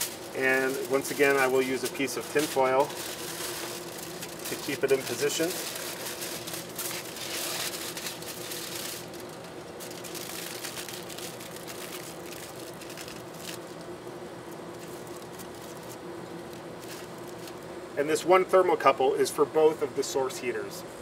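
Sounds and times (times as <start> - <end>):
aluminium foil crinkling: 0.0 - 17.7
steady low hum: 0.0 - 21.0.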